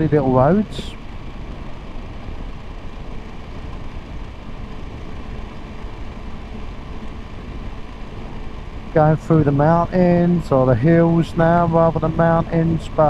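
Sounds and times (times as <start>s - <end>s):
faint steady whine: 0.0s - 13.0s
motorcycle engine running: 0.0s - 13.0s
wind and road noise: 0.0s - 13.0s.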